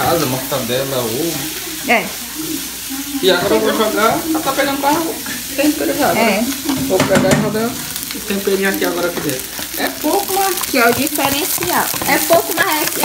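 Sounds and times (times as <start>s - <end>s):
food sizzling in a frying pan: 0.0s - 13.0s
spatula stirring in a pan: 0.0s - 13.0s.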